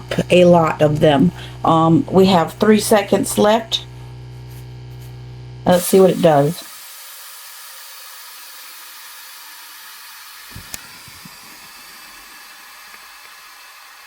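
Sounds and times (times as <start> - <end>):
machine hissing: 0.0 - 14.0.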